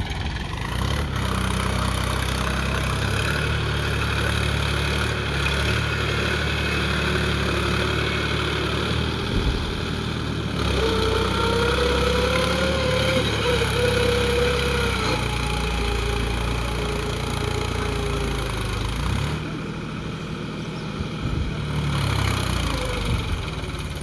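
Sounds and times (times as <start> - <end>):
small tractor motor running: 0.0 - 24.0.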